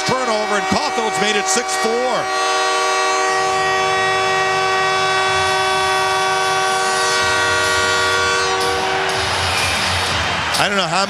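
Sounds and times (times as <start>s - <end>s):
arena goal horn blast: 0.0s - 10.6s.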